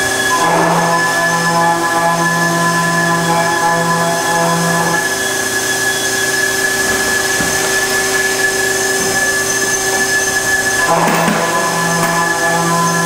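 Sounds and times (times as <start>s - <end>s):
saw humming with high whine: 0.0s - 13.0s.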